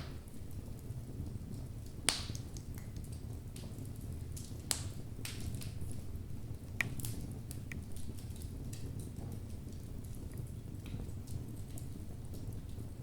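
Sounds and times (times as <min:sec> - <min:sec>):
wood fire burning and crackling: 0:00.0 - 0:13.0.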